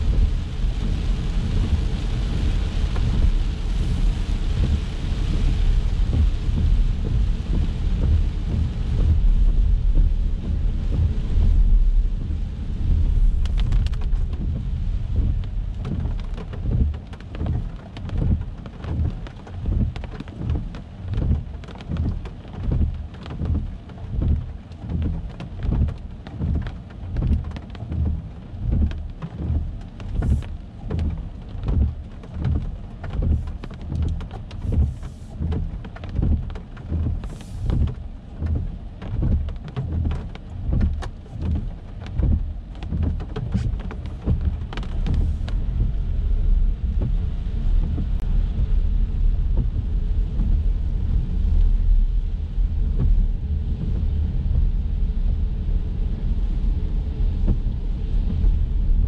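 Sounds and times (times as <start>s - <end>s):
windshield wipers thumping: 0.0s - 54.7s
tyre and road rumble: 0.0s - 55.3s
rain hiss: 0.0s - 59.0s
raindrops ticking on car: 0.0s - 59.0s.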